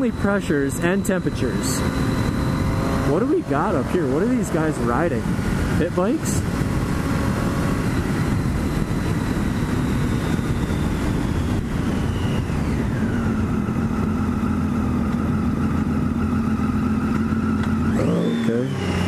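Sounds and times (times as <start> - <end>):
wind rushing over microphone: 0.0 - 16.3
motorcycle engine running: 0.0 - 19.0.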